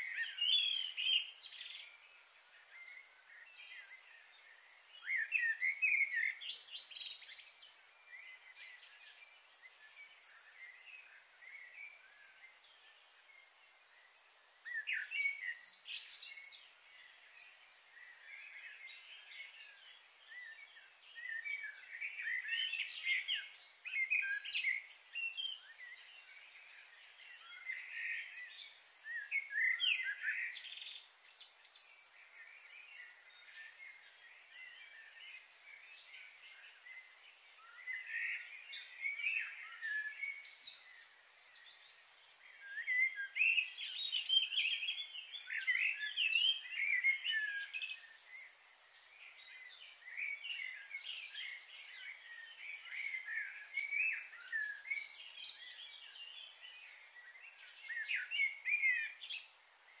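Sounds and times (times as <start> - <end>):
faint steady hiss: 0.0 - 60.0
small birds chirping: 0.0 - 60.0.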